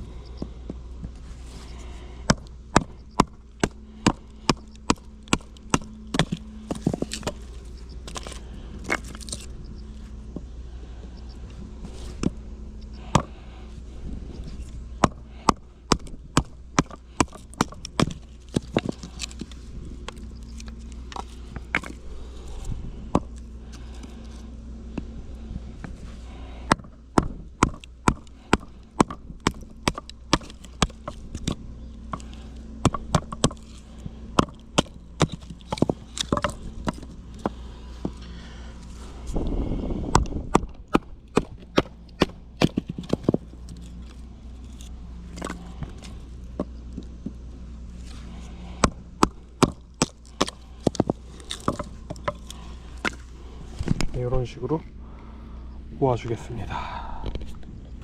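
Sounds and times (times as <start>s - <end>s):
firewood being split: 1.1s - 10.5s, 11.8s - 55.3s.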